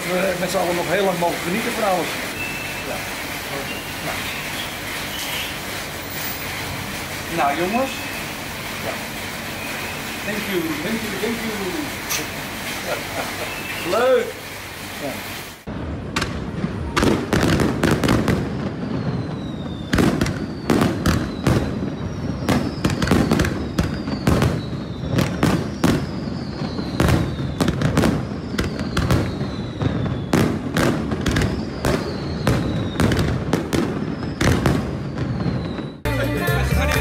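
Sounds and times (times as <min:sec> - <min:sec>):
falling firework whistles: 0:00.0 - 0:36.1
fireworks bangs and crackles: 0:00.0 - 0:37.0.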